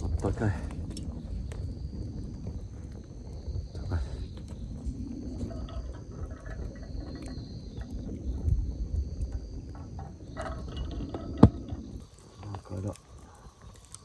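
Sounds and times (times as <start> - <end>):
campfire crackling: 0.0 - 14.0
insects chirring: 0.0 - 14.0
wind on microphone: 0.0 - 14.0.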